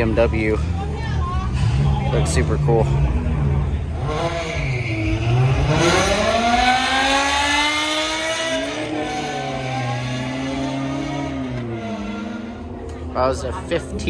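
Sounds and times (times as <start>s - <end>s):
car accelerating hard: 0.0s - 14.0s.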